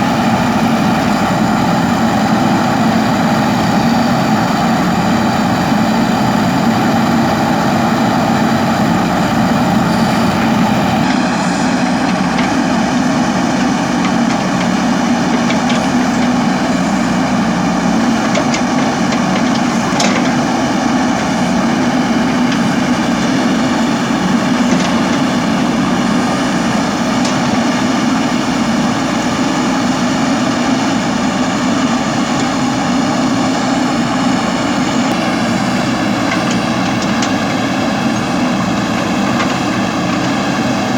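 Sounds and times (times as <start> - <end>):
machine humming and whining: 0.0 - 40.9.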